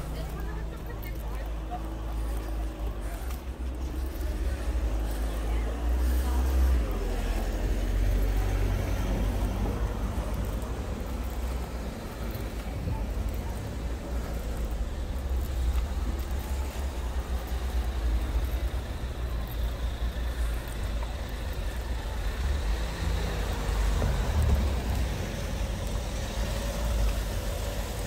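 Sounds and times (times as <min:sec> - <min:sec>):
vehicle engine low rumble: 0:00.0 - 0:28.0.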